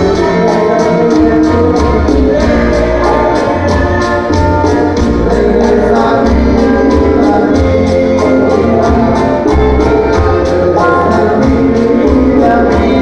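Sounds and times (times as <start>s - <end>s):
dance music with sung vocal: 0.0s - 13.0s.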